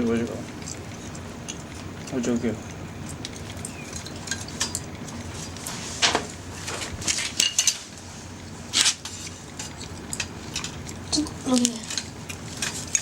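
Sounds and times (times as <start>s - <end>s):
utensils clinking on metal grill: 0.0s - 13.0s.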